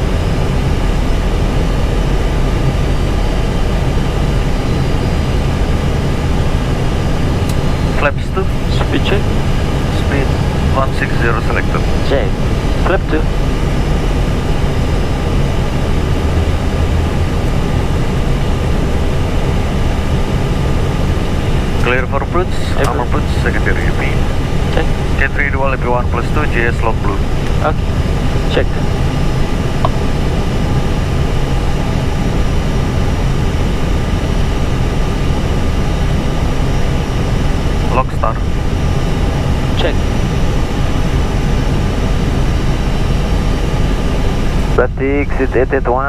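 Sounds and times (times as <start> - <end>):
airflow and engine rumble: 0.0 - 46.0
airplane cockpit noise: 0.0 - 46.0
faint steady tones: 0.0 - 46.0.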